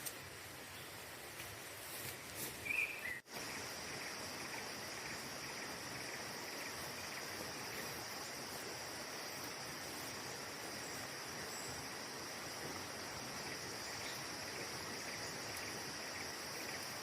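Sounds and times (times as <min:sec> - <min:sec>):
background hiss: 0:00.0 - 0:17.0
high-pitched insect trill: 0:03.2 - 0:17.0.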